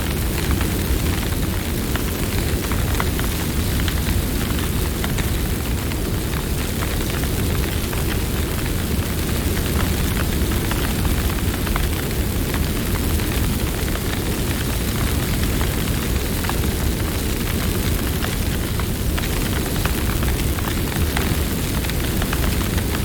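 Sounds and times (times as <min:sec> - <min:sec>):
burning wood crackling and popping: 0:00.0 - 0:23.0
low rumble of flames: 0:00.0 - 0:23.0.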